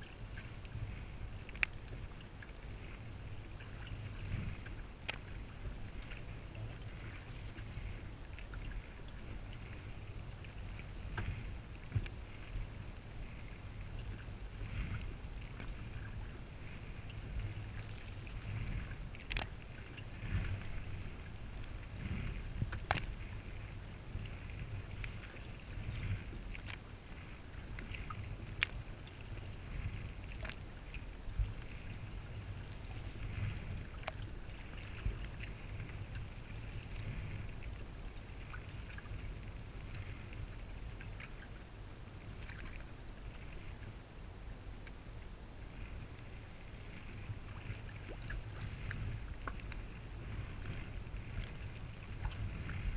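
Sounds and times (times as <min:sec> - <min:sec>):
paddle splashing in water: 0:00.0 - 0:44.0, 0:44.6 - 0:52.9
steady low rumble: 0:00.0 - 0:52.9.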